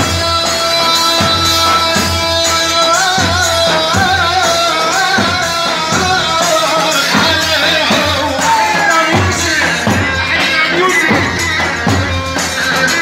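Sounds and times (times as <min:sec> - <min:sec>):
ornamented melody line: 0:00.0 - 0:13.0
person singing: 0:00.0 - 0:13.0
steady drum beat: 0:00.0 - 0:13.0.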